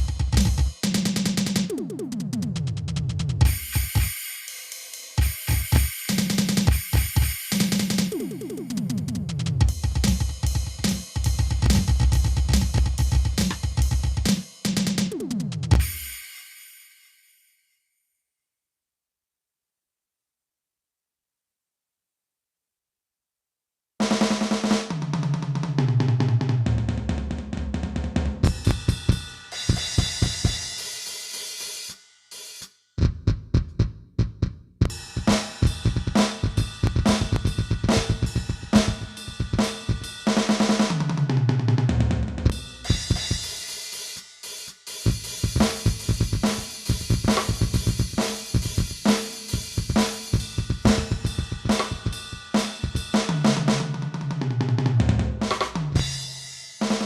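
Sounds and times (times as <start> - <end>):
electronic drum beats: 0.0 - 16.2, 24.2 - 31.0, 33.0 - 43.8, 44.7 - 57.0.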